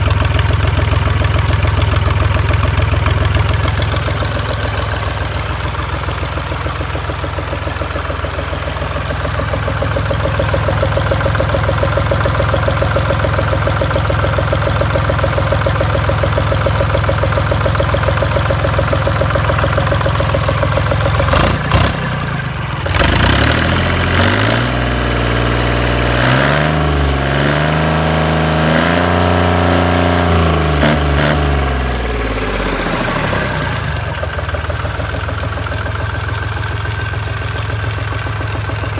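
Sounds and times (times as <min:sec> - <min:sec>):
boat engine idling and revving: 0:00.0 - 0:38.9.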